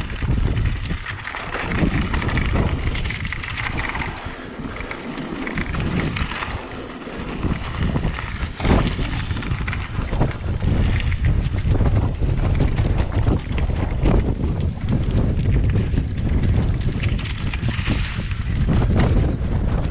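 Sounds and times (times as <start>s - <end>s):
tyres crunching over stones: 0.0s - 18.8s
bike clattering over bumps: 0.0s - 19.9s
wind buffeting microphone: 0.0s - 19.9s.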